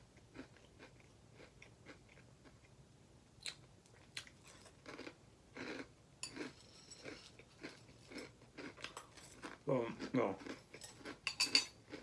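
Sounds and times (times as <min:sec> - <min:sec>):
cereal being chewed: 0:00.2 - 0:02.8, 0:03.4 - 0:11.2.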